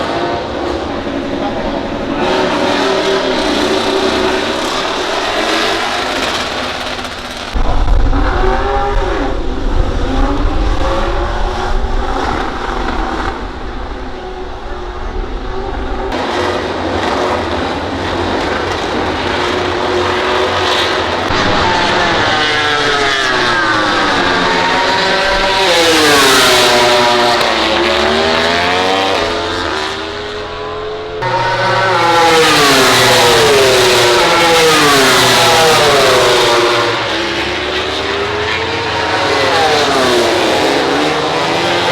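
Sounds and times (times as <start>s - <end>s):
racing motorcycles at high revs: 0.0s - 41.9s.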